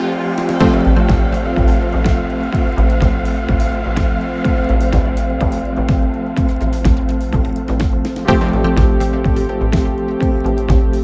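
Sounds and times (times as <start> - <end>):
held chords: 0.0 - 11.0
steady drum beat: 0.6 - 11.0.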